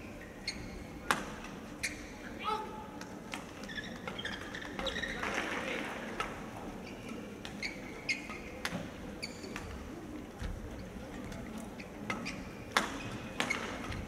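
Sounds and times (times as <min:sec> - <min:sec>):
shoes squeaking on court: 0:00.2 - 0:02.3, 0:03.5 - 0:05.4, 0:06.7 - 0:14.0.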